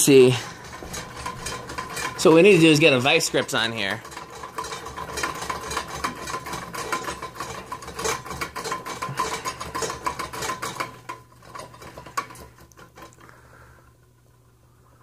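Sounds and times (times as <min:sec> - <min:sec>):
ceiling fan hanger rattling: 0:00.0 - 0:14.5
fan motor low hum: 0:00.0 - 0:15.0.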